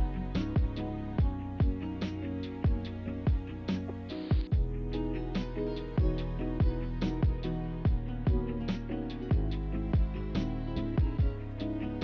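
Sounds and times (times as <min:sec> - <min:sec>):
low drum hits: 0:00.0 - 0:11.4
background music with beat: 0:00.0 - 0:12.0.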